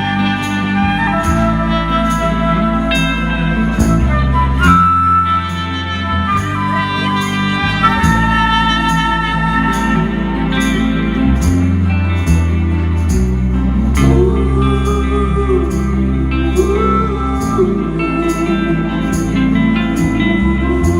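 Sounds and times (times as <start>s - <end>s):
live band playing: 0.0s - 20.9s.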